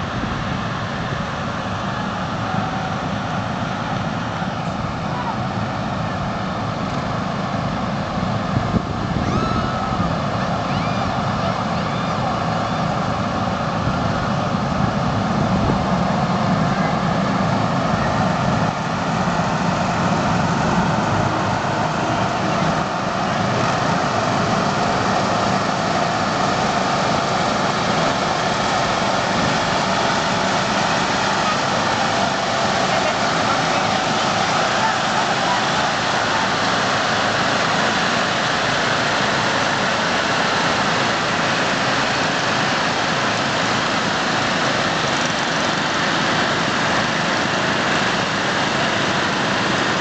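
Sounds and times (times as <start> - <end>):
lawn mower engines running: 0.0 - 50.0.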